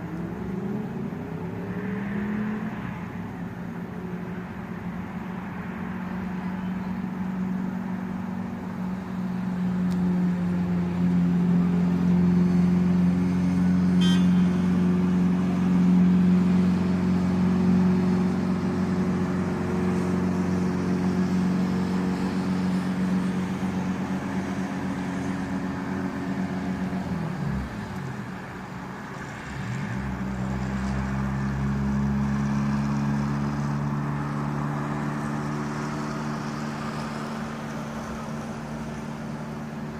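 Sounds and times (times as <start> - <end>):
vehicle engine running: 3.2 - 39.9.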